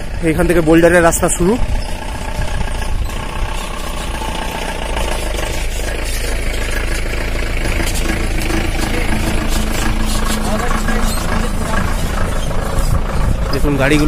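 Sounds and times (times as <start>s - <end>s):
suv engine running slowly: 0.0s - 14.0s.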